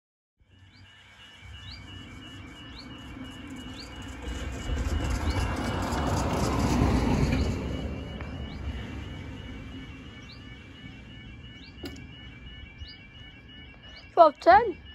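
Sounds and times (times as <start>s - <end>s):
level crossing alarm pulsing: 0.4s - 14.9s
van driving over crossing: 0.8s - 13.7s.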